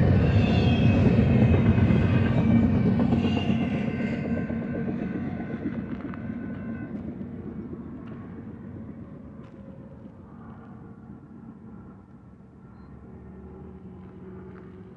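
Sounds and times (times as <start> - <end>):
freight train rumbling: 0.0 - 14.9.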